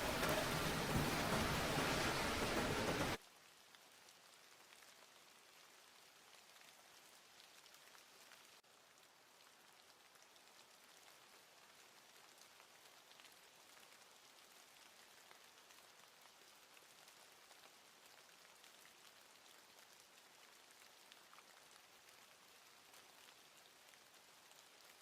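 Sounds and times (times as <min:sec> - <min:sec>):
rain pattering on surfaces: 0:00.0 - 0:25.0.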